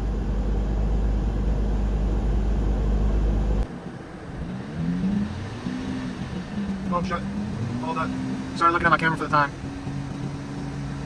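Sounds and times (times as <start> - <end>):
car engine idling without exhaust: 0.0 - 11.0.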